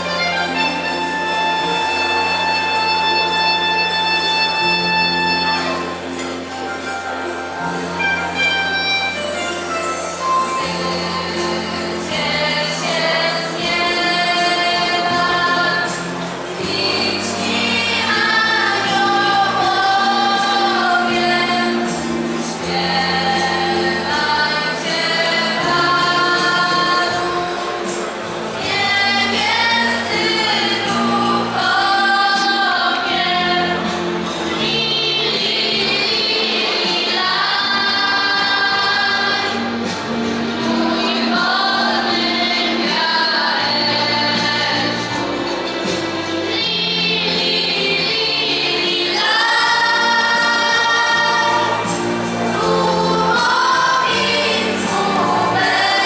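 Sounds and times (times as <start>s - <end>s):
choir singing a carol: 0.0s - 56.0s.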